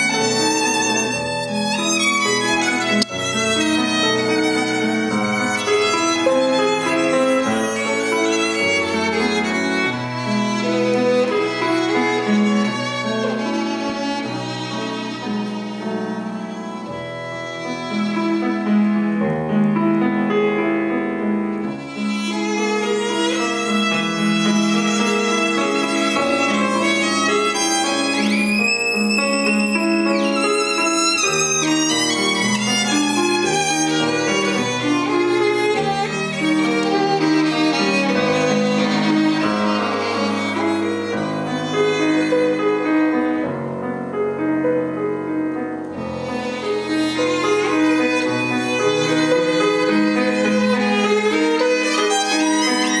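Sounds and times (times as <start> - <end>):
violin playing: 0.0 - 19.6, 21.6 - 43.5, 45.9 - 53.0
grand piano accompaniment: 0.0 - 53.0.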